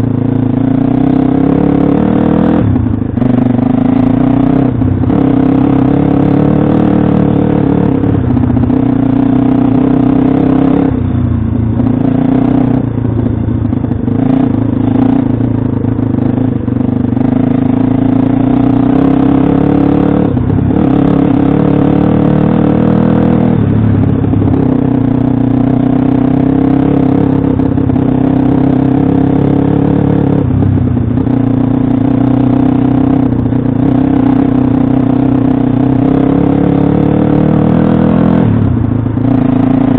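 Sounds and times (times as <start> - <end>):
motorbike engine revving high: 0.0 - 39.9.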